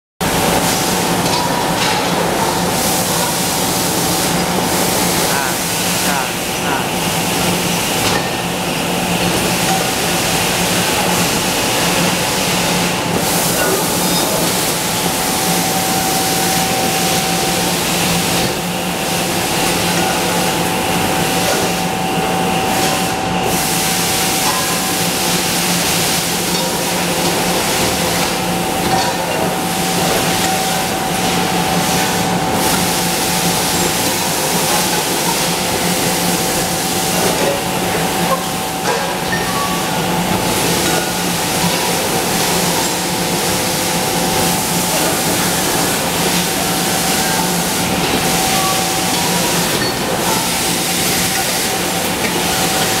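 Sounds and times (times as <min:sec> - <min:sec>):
factory machinery din: 0:00.2 - 0:53.0.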